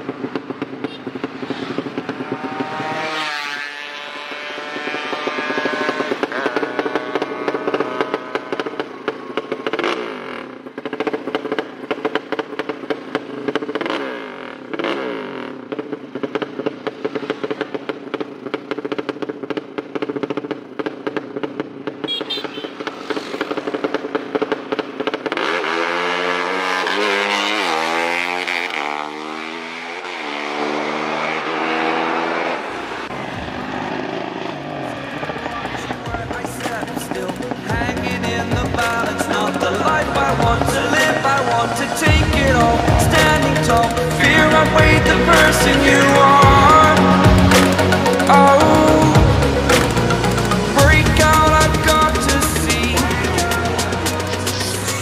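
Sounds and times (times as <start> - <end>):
motorcycle engine revving hard: 0.0 - 55.0.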